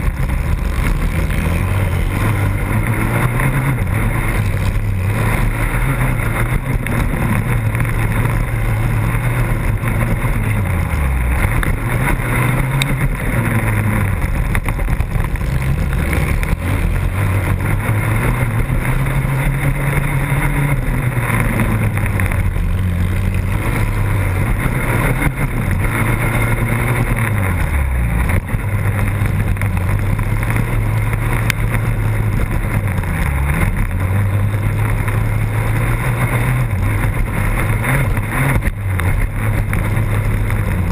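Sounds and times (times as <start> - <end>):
quad engine revving: 0.0 - 40.9
wind noise on microphone: 0.0 - 40.9.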